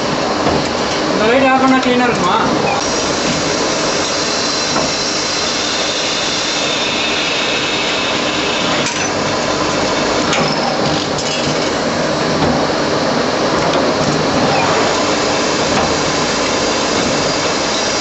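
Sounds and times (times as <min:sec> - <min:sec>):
lathe machining noise: 0:00.0 - 0:18.0.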